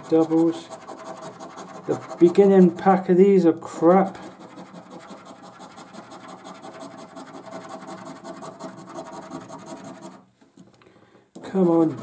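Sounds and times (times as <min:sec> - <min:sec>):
coin scratching a scratchcard: 0:00.0 - 0:03.0, 0:03.9 - 0:10.3, 0:11.4 - 0:12.0.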